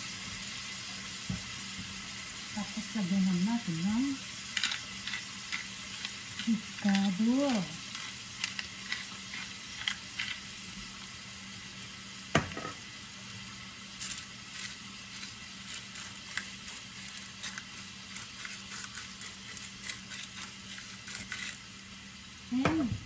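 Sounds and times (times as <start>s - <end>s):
seafood sizzling in butter: 0.0s - 22.7s.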